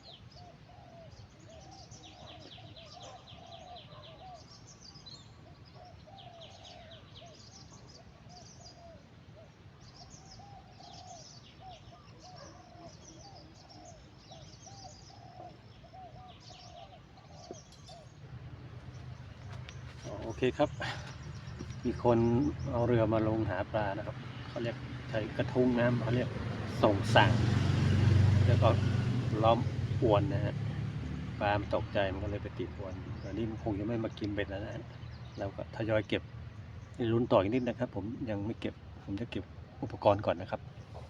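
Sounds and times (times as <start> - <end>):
birds calling: 0.0 - 41.0.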